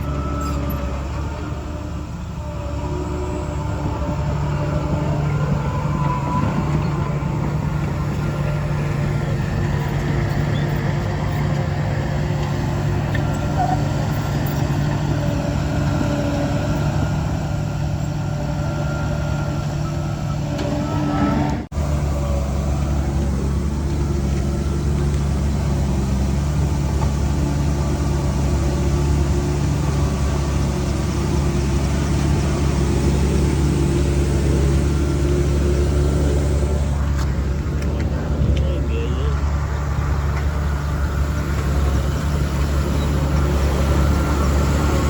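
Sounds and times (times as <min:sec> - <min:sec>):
bulldozer diesel engine drone: 0:00.0 - 0:45.0.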